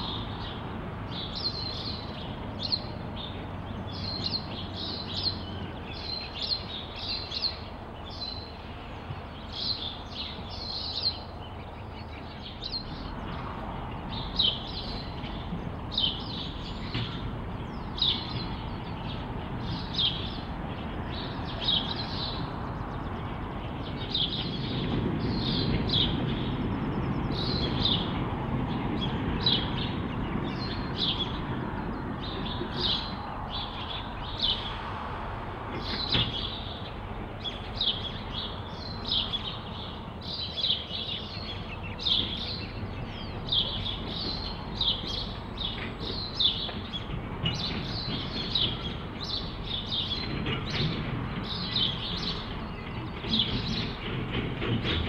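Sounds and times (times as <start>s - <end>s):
small birds chirping: 0.0s - 34.8s, 35.7s - 55.0s
diesel locomotive rumble: 0.0s - 55.0s.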